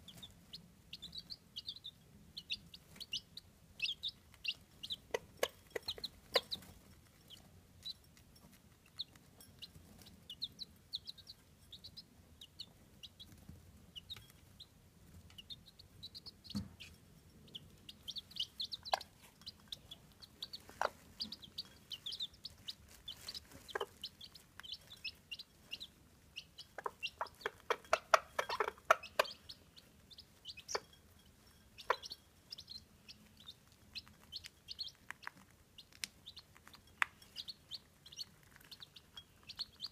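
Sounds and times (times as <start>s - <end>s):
beaks pecking at a bowl: 0.0s - 39.9s
chicks peeping: 0.0s - 39.9s.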